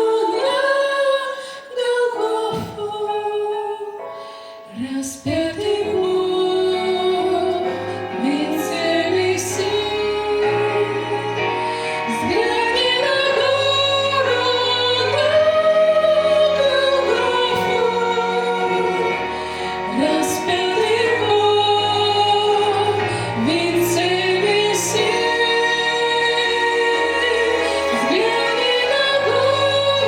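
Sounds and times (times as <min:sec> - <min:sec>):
sustained instrumental backing: 0:05.3 - 0:30.0.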